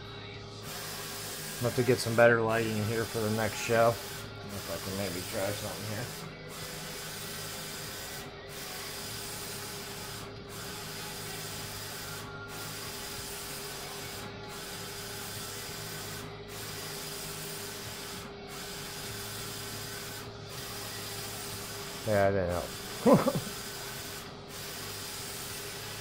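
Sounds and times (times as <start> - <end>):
printer carriage whirring: 0.7 - 26.0.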